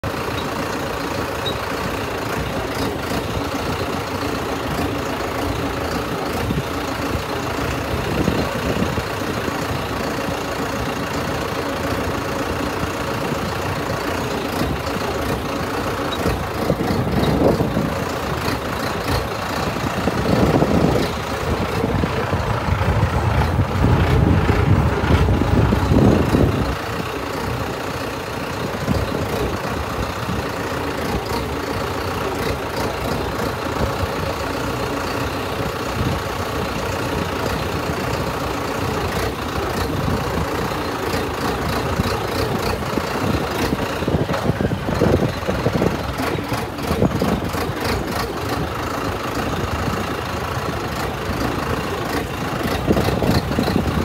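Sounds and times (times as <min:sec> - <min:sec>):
road noise: 0:00.0 - 0:54.0
tractor engine running: 0:00.0 - 0:54.0
cab rattle: 0:00.1 - 0:54.0.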